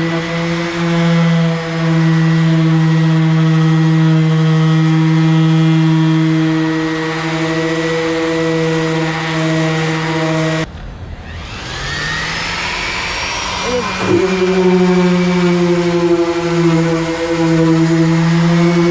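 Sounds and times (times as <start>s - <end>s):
electric sander on hull: 0.0s - 18.9s.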